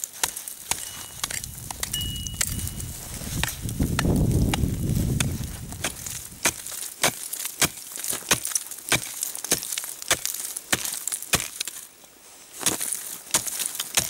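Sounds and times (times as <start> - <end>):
ice chisel striking ice: 0.1 - 2.8, 3.4 - 11.8, 12.6 - 14.0.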